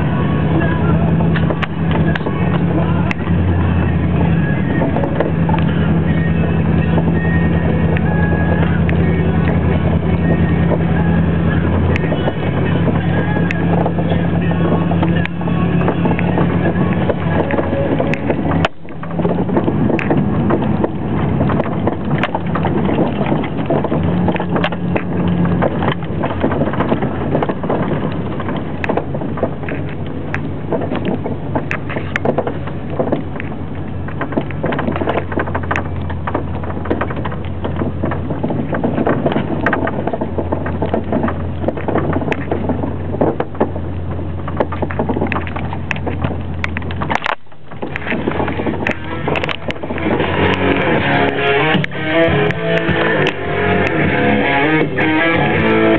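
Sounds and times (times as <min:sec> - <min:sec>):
knocks and rattles: 0:00.0 - 0:55.9
vehicle engine running: 0:00.0 - 0:55.9.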